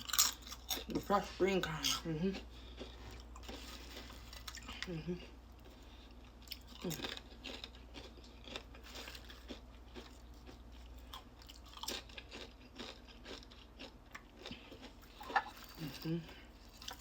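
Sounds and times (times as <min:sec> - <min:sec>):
chewing crispy fried chicken: 0:00.0 - 0:17.0.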